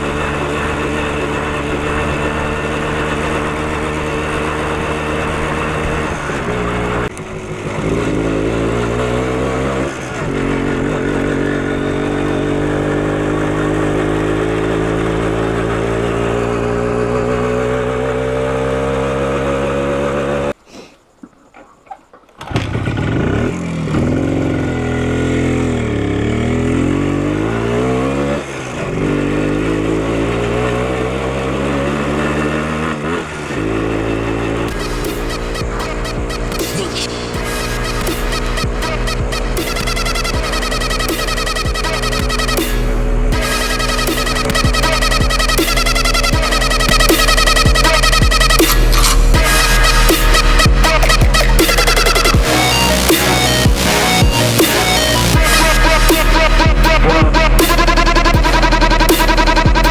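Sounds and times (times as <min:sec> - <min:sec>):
two-stroke motorcycle engine: 0:00.0 - 0:20.6, 0:22.4 - 0:59.9.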